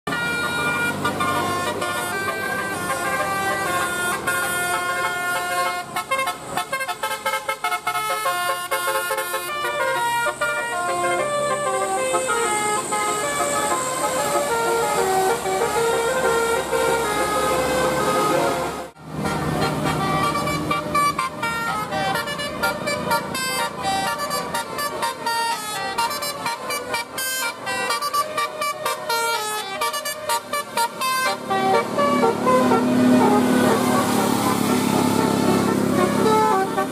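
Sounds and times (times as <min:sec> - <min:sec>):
musical bus air horns: 0:00.1 - 0:36.9.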